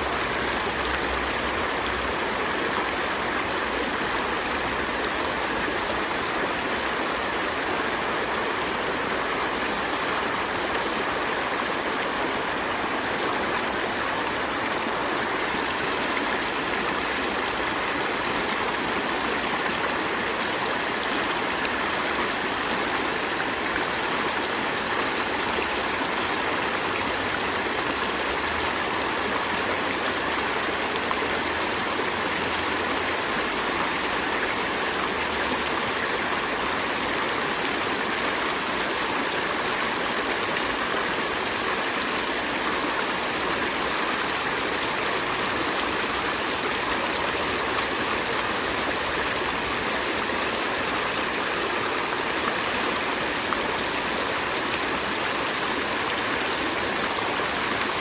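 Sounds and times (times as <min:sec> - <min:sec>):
river stream flowing: 0:00.0 - 0:58.0.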